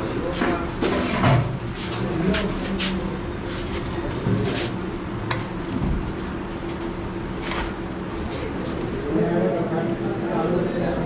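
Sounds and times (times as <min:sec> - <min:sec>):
busy dining hall hum: 0:00.0 - 0:11.0.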